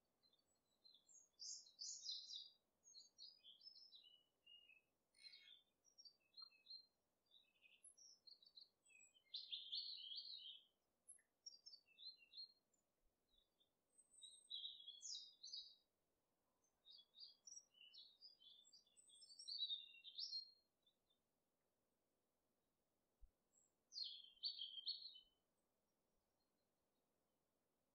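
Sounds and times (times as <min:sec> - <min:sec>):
small birds chirping: 0:00.1 - 0:15.9, 0:16.5 - 0:21.2, 0:23.3 - 0:25.7.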